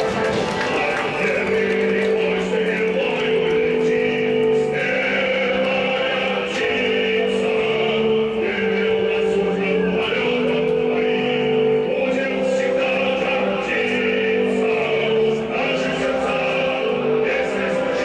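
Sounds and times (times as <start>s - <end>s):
choir-like singing music: 0.0s - 18.0s.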